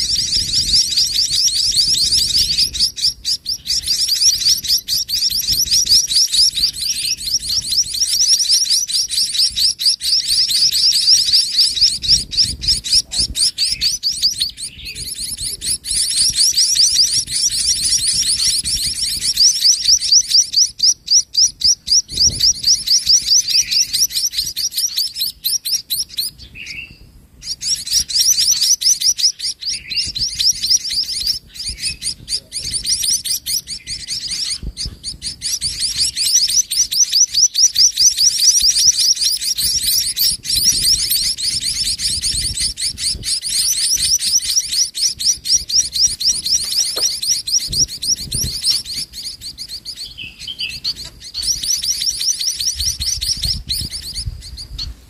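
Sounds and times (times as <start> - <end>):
nestlings begging chirps: 0.0 - 55.0.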